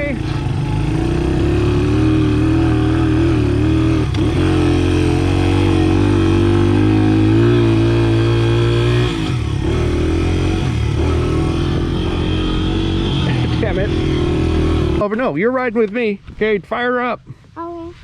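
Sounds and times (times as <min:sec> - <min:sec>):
dirt bike engine running: 0:00.0 - 0:16.2.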